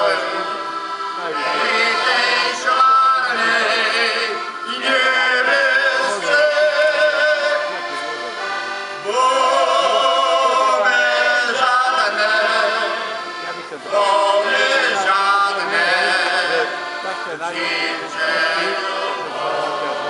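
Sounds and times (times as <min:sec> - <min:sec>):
group singing held notes: 0:00.0 - 0:07.4, 0:09.0 - 0:16.9, 0:17.5 - 0:20.0
button accordions playing folk tune: 0:00.0 - 0:20.0.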